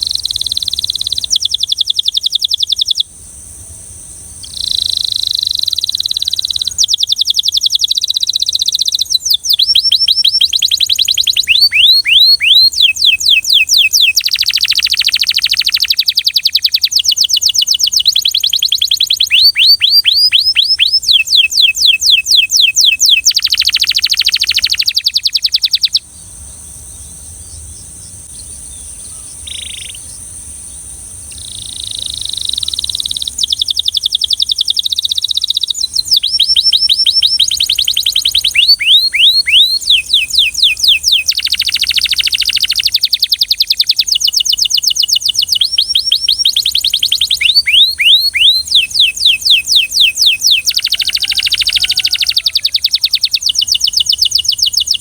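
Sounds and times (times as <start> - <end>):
canary singing trills: 0.0 - 3.1, 4.4 - 55.0.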